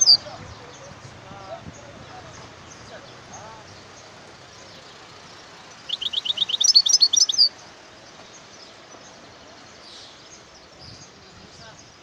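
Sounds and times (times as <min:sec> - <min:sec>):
goldfinch chirping song: 0:00.0 - 0:12.0.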